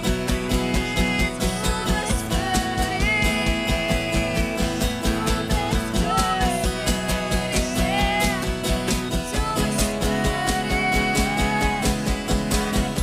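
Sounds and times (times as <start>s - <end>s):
band playing praise music: 0.0s - 13.0s.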